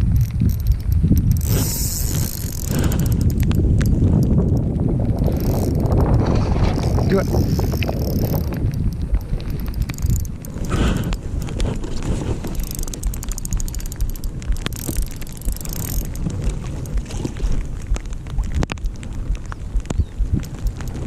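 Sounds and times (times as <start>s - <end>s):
small clicks and knocks: 0.0s - 21.0s
wind buffeting microphone: 0.0s - 21.0s.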